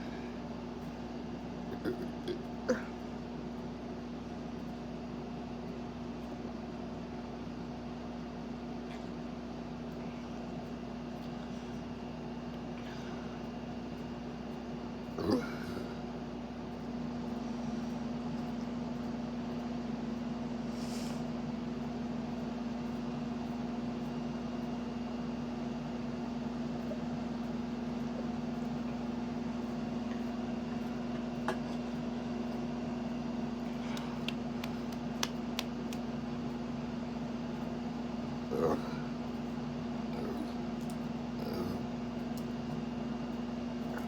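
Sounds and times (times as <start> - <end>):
steady machine hum: 0.0 - 44.0.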